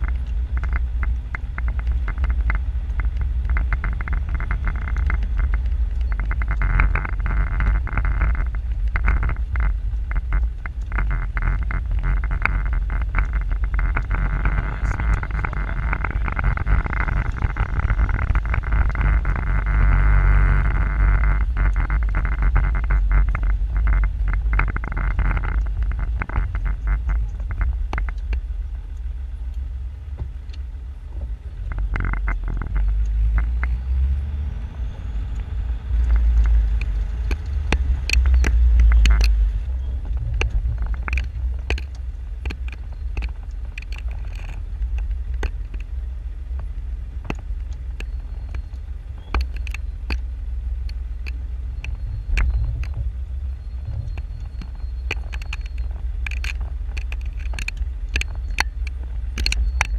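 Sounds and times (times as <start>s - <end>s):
engine and drivetrain rumble: 0.0s - 59.9s.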